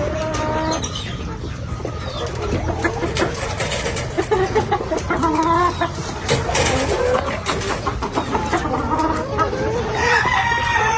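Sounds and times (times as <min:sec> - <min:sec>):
chickens clucking: 0:00.0 - 0:10.9.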